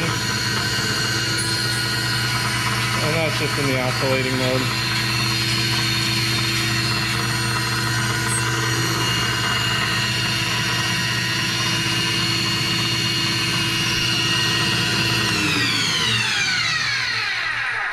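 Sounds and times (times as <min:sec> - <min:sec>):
grinder humming and whining: 0:00.0 - 0:17.9.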